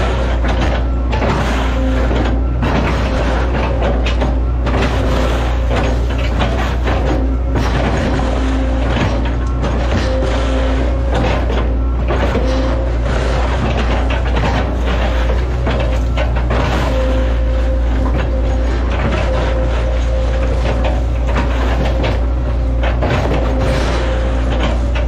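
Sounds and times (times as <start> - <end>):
excavator engine drone: 0.0 - 25.0
hydraulics whining: 0.0 - 25.0
knocks and cracks: 0.0 - 25.0.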